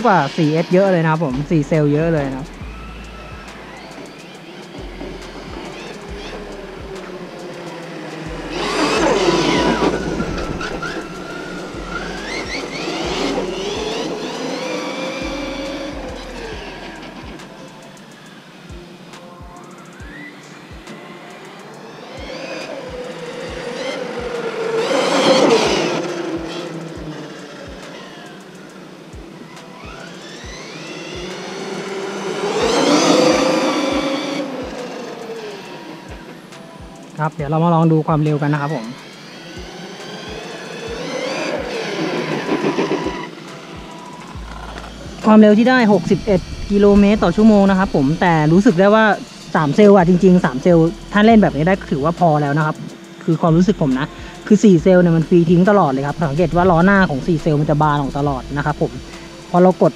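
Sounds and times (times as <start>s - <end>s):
rc truck electric motor whining: 0.0s - 59.9s.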